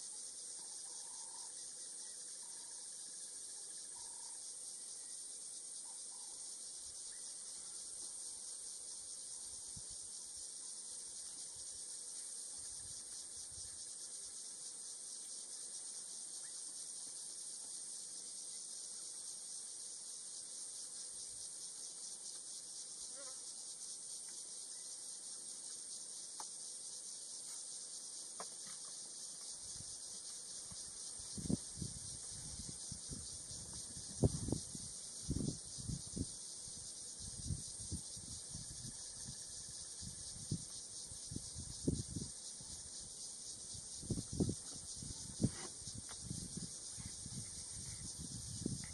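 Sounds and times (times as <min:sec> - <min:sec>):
insect chorus shrill drone: 0:00.0 - 0:48.9.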